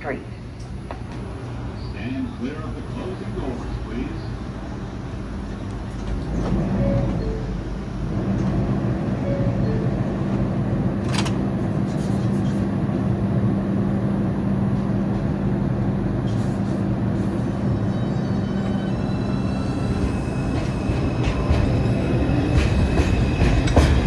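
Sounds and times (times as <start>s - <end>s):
subway train motors and wheels: 0.0s - 24.0s.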